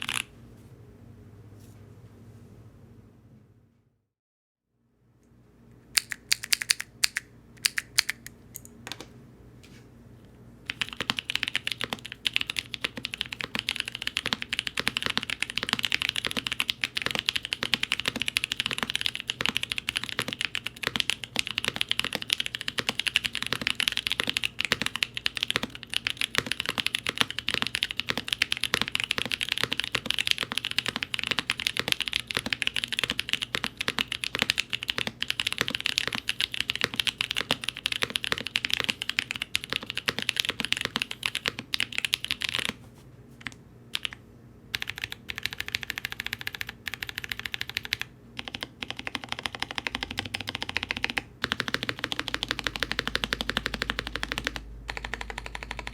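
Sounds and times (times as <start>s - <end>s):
mechanical keyboard typing: 0.0s - 0.3s, 6.0s - 8.3s, 10.7s - 42.8s, 43.4s - 55.9s.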